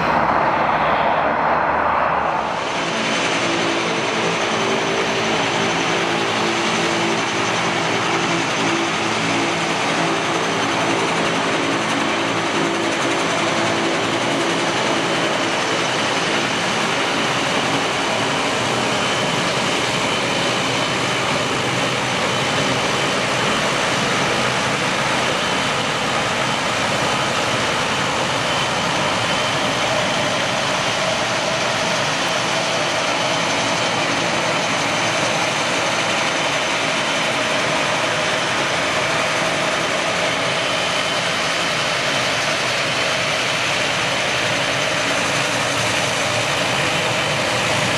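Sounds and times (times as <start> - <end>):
turboprop engines running: 0.0 - 47.9.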